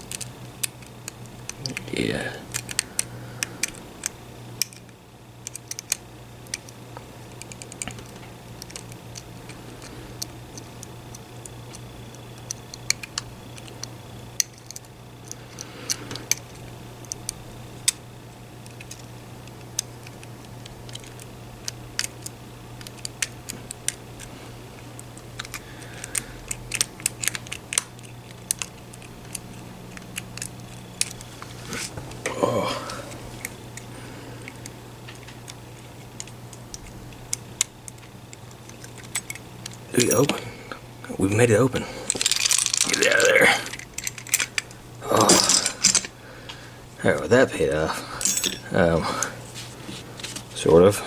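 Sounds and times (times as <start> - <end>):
lock picks clicking and scraping: 0.0 - 32.0, 33.1 - 40.4, 42.0 - 46.6, 48.2 - 49.3
steady low hum: 0.0 - 51.0.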